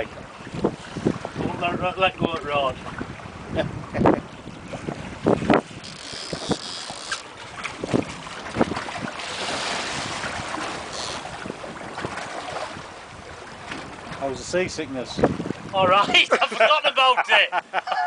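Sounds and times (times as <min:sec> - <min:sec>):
wind buffeting microphone: 0:00.0 - 0:16.4
sea washing against boat: 0:00.0 - 0:17.8
rushing water: 0:00.0 - 0:18.0.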